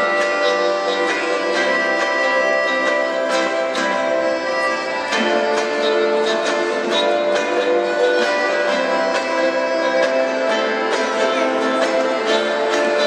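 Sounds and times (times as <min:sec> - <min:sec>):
melodica playing melody: 0:00.0 - 0:13.0
ukuleles strumming chords: 0:00.0 - 0:13.0.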